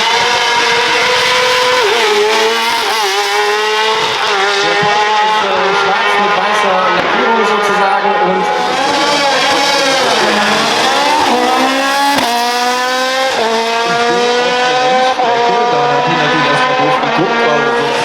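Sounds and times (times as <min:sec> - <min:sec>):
race car accelerating: 0:00.0 - 0:18.0.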